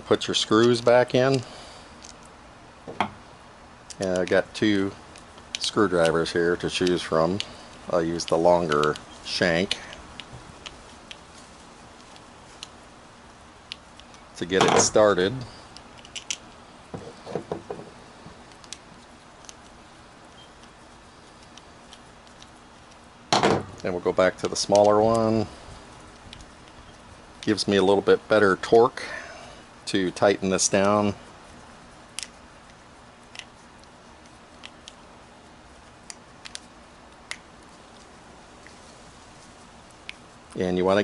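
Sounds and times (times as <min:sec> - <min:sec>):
steady low hiss: 0:00.0 - 0:41.0.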